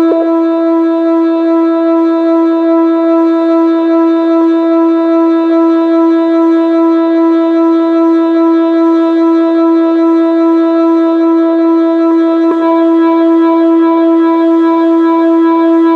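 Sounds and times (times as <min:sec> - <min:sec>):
outdoor warning siren steady tone: 0:00.0 - 0:15.9.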